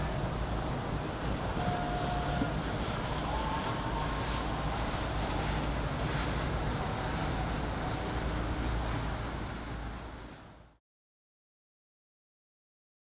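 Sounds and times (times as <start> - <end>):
wind buffeting microphone: 0.0 - 10.5
water wash: 0.0 - 10.7
boat engines passing: 0.0 - 10.8.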